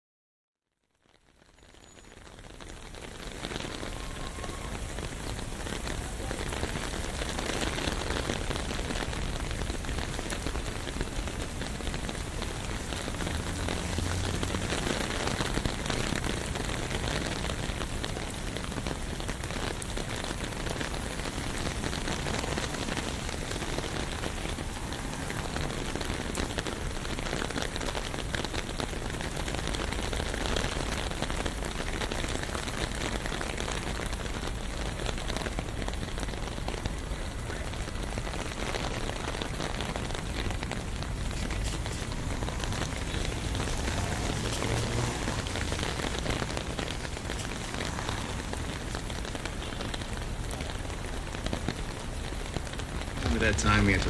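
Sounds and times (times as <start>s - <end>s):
rain on an umbrella: 0.6s - 54.0s.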